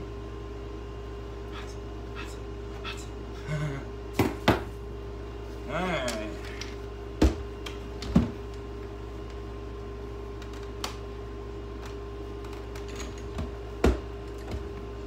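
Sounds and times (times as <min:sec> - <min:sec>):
compressor humming: 0:00.0 - 0:15.0.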